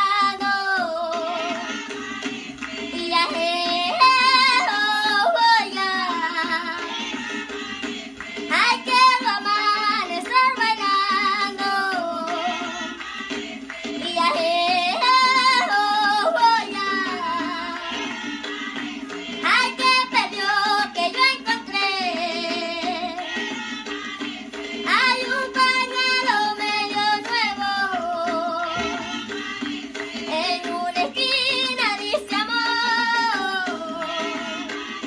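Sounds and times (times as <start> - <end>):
girl singing with vibrato: 0.0 - 13.2, 13.9 - 24.2, 24.8 - 35.0.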